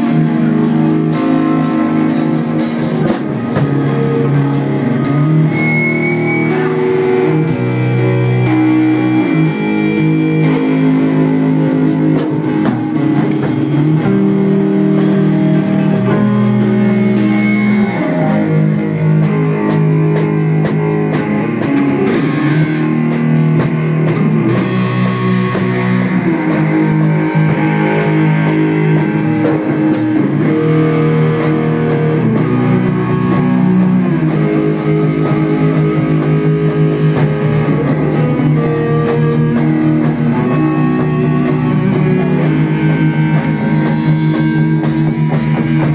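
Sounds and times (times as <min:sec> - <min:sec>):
bass guitar: 0:00.0 - 0:45.9
drum kit: 0:00.0 - 0:45.9
electric guitar: 0:00.0 - 0:45.9.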